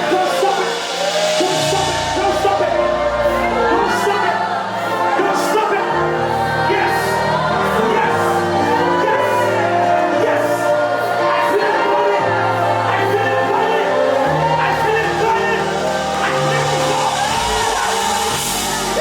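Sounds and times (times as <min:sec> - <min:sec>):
keyboard chords over bass: 0:00.0 - 0:19.0
people singing: 0:00.0 - 0:19.0.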